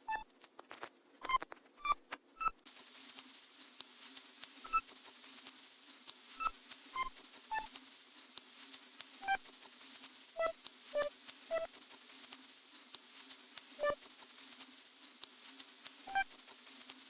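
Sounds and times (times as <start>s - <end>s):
faint hiss: 1.3s - 17.0s.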